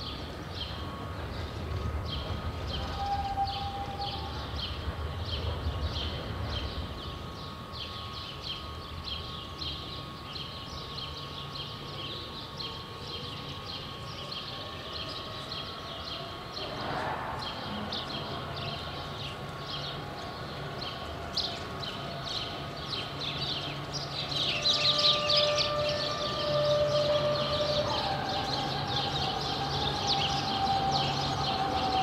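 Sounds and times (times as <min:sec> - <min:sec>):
tram low rumble: 0:00.0 - 0:32.0.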